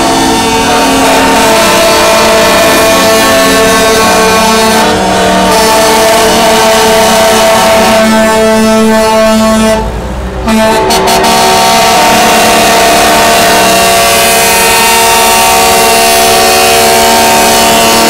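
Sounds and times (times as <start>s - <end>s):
truck air horns: 0.0s - 18.0s.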